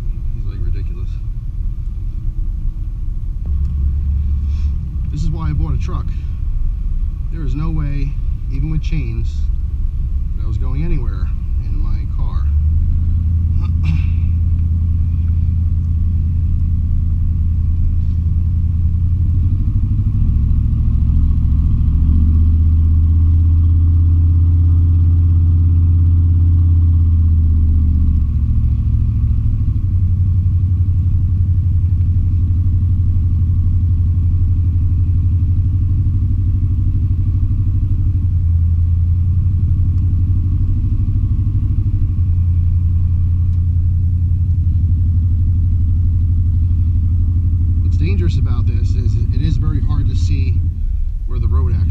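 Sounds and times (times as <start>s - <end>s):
pickup truck engine running: 0.0s - 51.9s.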